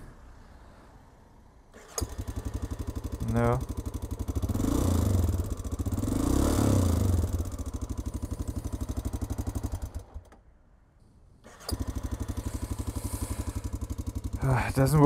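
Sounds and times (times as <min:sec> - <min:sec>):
single-cylinder engine running: 0:01.7 - 0:10.4, 0:11.4 - 0:15.0.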